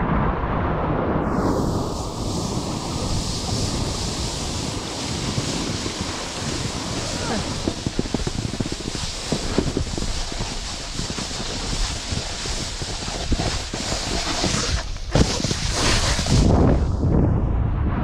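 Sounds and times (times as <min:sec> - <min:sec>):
wind on microphone: 0:00.0 - 0:18.0
snowboard scraping over snow: 0:01.3 - 0:17.0.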